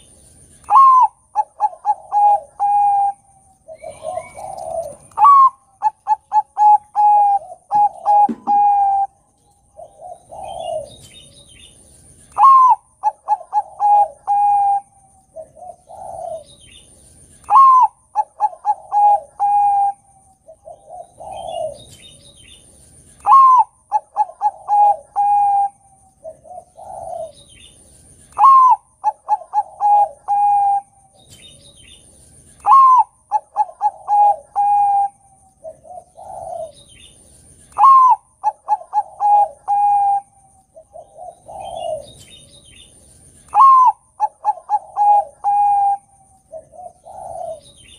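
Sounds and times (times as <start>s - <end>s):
dove cooing: 0.0s - 32.0s, 32.6s - 47.9s.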